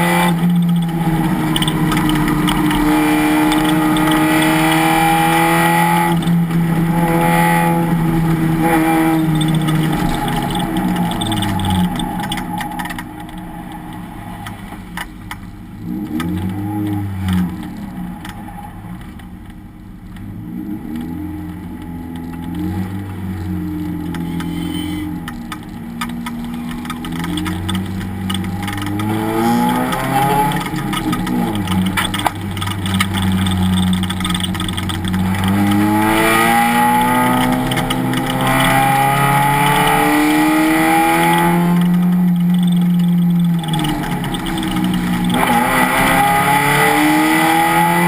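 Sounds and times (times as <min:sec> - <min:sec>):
race car engine revving: 0:00.0 - 0:14.2, 0:20.2 - 0:48.0.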